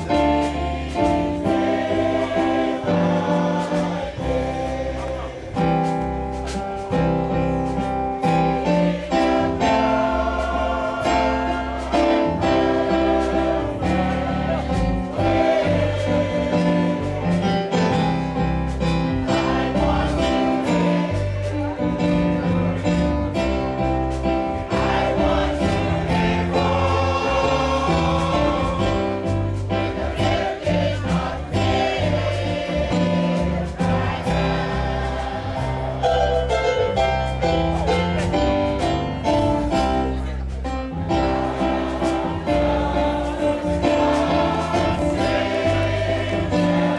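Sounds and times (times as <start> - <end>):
gospel choir singing: 0.0 - 46.9
instrumental backing with bass: 0.0 - 46.9.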